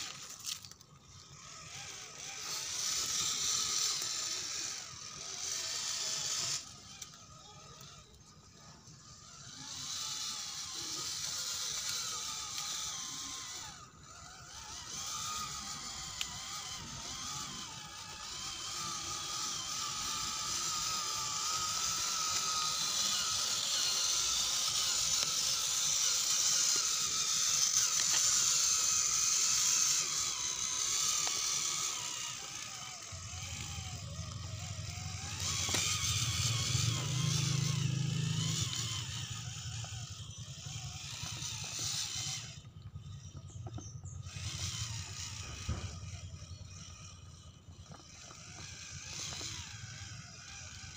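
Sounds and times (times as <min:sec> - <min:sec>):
electric motor whining: 0:00.0 - 0:50.9.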